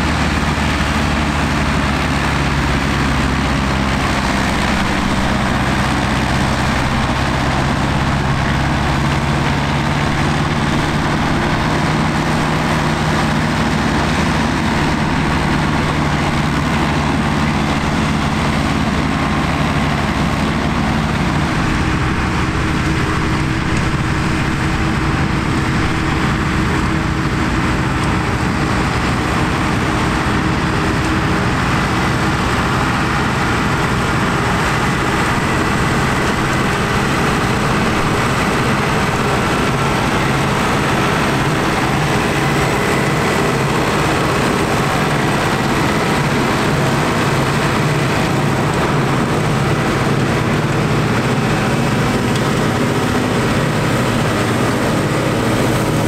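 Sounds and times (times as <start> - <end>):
tractor engine and machinery drone: 0.0 - 56.0.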